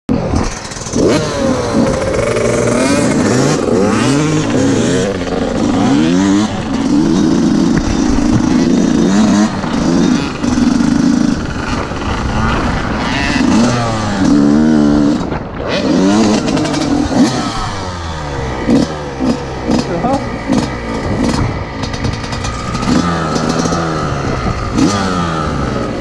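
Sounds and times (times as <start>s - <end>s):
dirt bike accelerating hard: 0.1s - 26.0s
dirt bike engines revving: 0.1s - 26.0s
gear changes: 0.1s - 26.0s.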